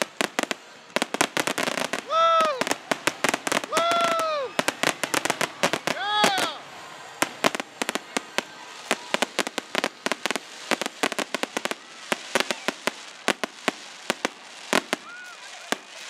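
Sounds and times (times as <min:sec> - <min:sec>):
fireworks popping and banging: 0:00.0 - 0:16.0
steady hiss: 0:00.0 - 0:16.0.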